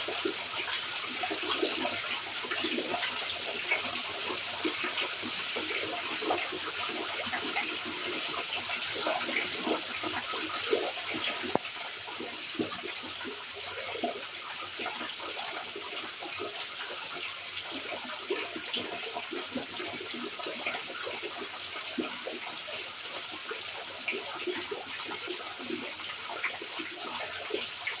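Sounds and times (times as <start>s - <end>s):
heavy drips and splashes: 0.0s - 28.0s.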